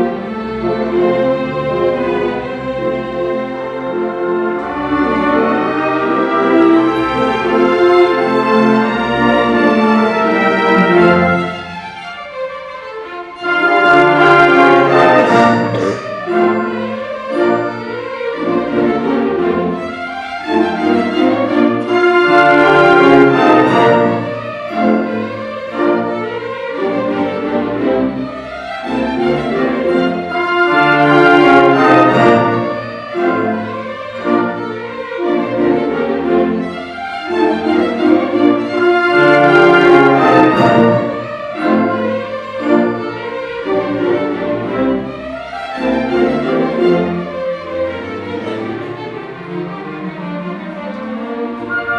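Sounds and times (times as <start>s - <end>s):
orchestra playing a waltz: 0.0s - 51.9s.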